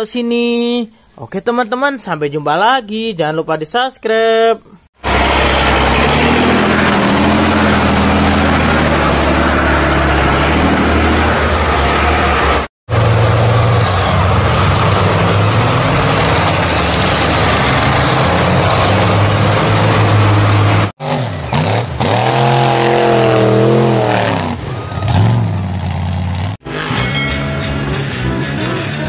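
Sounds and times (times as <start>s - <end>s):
engine revving: 5.0s - 29.0s
truck engine under heavy load: 5.0s - 29.0s.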